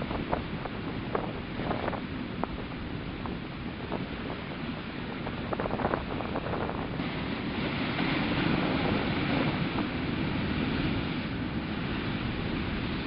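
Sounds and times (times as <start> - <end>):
waves crashing on rocks: 0.0 - 13.0
wind buffeting microphone: 0.0 - 13.0.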